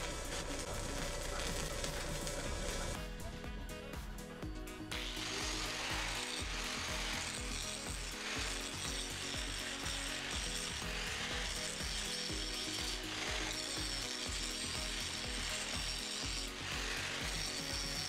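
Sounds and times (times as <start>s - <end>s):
angle grinder cutting metal: 0.0s - 3.0s, 4.8s - 18.0s
background music with beat: 0.0s - 18.0s.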